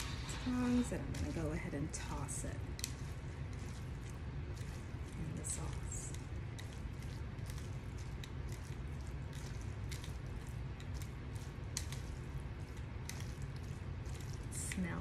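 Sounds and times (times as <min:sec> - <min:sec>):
steady low hum: 0:00.0 - 0:15.0
wet squishing of food: 0:00.0 - 0:15.0
tongs clicking on bowl: 0:00.6 - 0:15.0.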